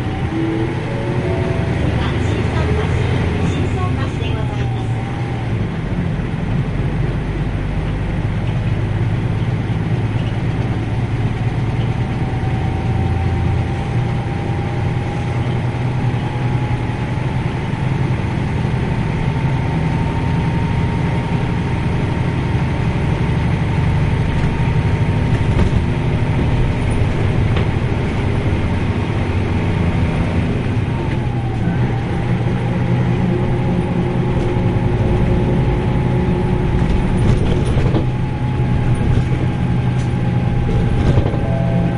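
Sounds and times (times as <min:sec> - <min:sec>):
bus diesel engine rumbling: 0:00.0 - 0:41.9.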